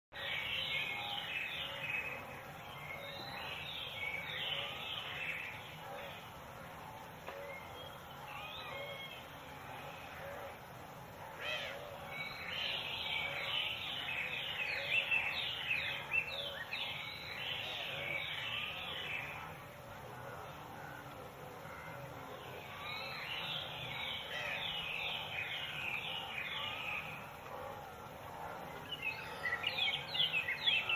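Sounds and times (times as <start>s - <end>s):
birds chirping: 0.1s - 30.9s
ambient background noise: 0.2s - 30.9s.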